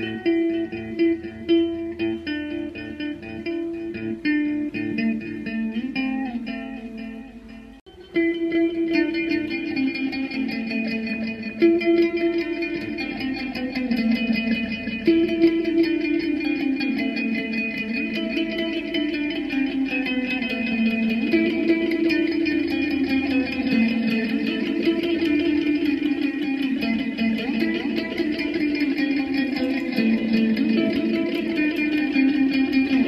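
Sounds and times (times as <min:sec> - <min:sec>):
guitar with reverb: 0:00.0 - 0:33.0.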